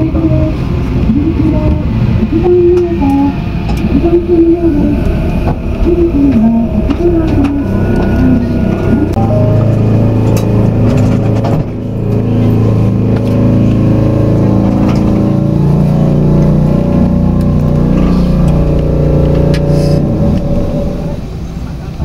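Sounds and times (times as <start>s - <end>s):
train motors whining: 0.0s - 22.0s
wheels rumbling on track: 0.0s - 22.0s.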